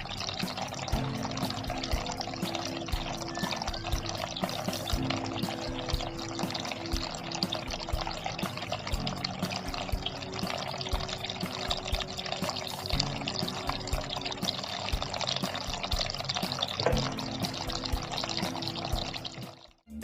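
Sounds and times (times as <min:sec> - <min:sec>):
water trickling and splashing: 0:00.0 - 0:19.8
background music with held notes: 0:00.0 - 0:20.0.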